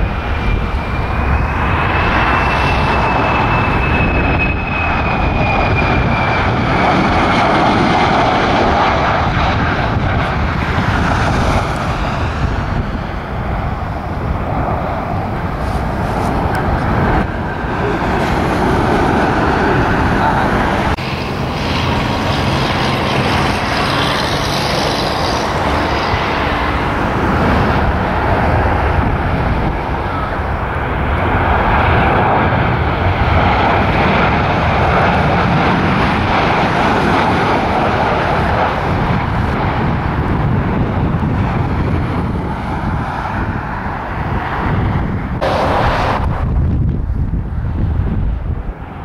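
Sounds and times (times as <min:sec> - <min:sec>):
jet airliner passing overhead: 0:00.0 - 0:49.0.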